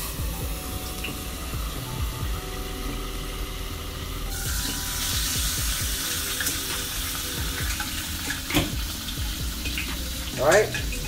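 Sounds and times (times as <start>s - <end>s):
meat sizzling in a pan: 0.0s - 11.0s
soft background music: 0.0s - 11.0s.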